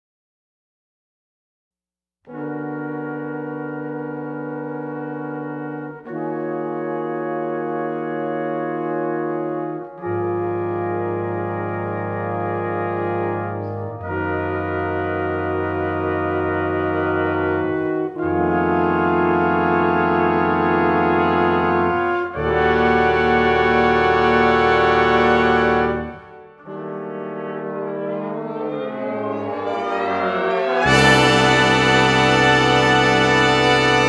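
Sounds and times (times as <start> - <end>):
brass ensemble sustained chords: 2.3 - 34.0.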